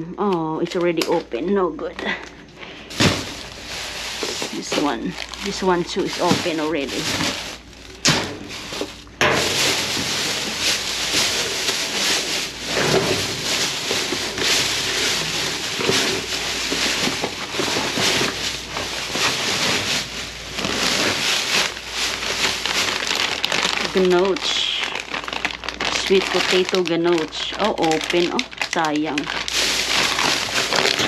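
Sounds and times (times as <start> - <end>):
plastic bags rustling: 0.7 - 31.0.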